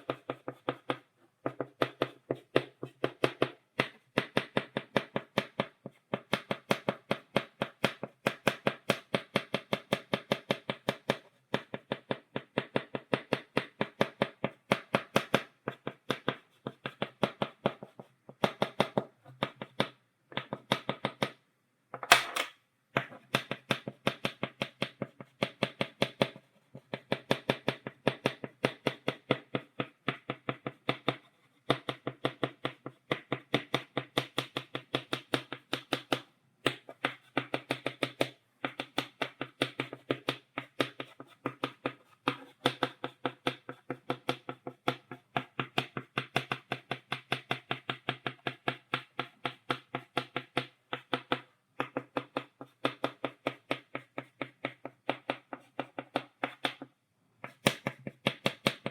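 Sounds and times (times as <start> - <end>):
chalk tapping on blackboard: 0.0 - 21.4, 22.9 - 58.9.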